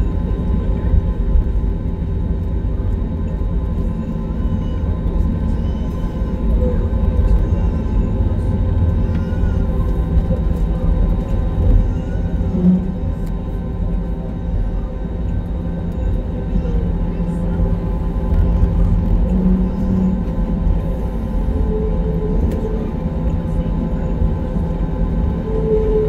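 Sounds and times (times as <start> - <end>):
jet engines idling in cabin: 0.0 - 26.0.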